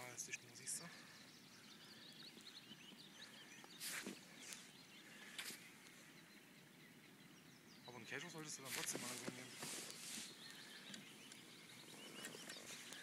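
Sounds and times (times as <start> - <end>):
distant birdsong chirps: 0.0 - 13.0.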